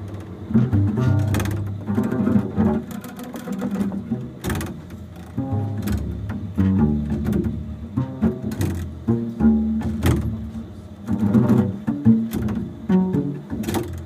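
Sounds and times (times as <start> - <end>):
double bass notes: 0.0 - 14.0.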